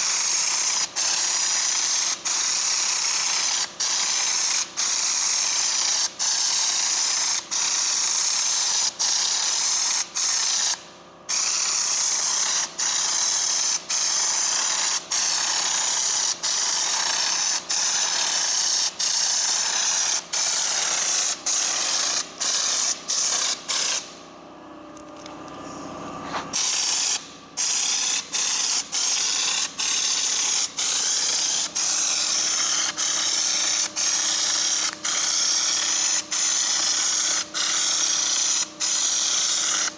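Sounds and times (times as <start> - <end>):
spray gun air hiss: 0.0 - 24.3, 25.6 - 39.9.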